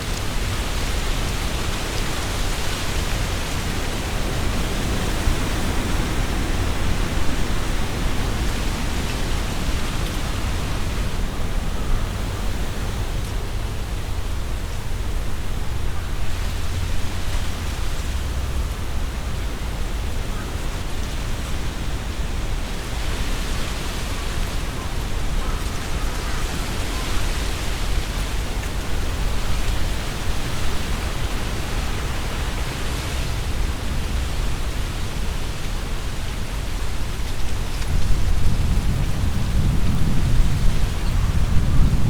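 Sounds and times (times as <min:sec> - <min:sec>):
leaves rustling in wind: 0:00.0 - 0:42.0
wind buffeting microphone: 0:00.0 - 0:42.0.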